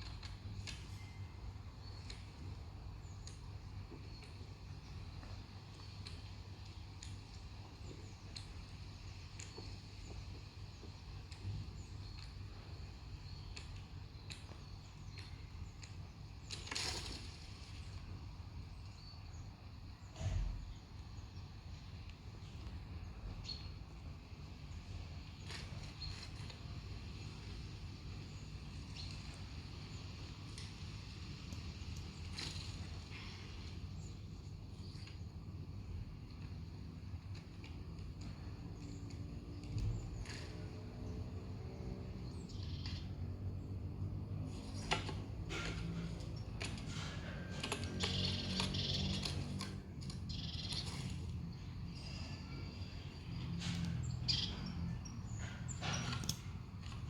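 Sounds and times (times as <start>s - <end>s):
birdsong from small speaker: 0.0s - 57.0s.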